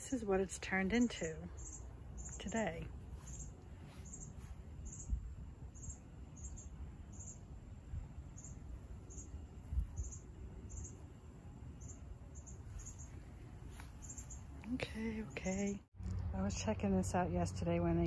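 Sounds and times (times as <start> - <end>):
insect chirping: 0.9 - 15.8.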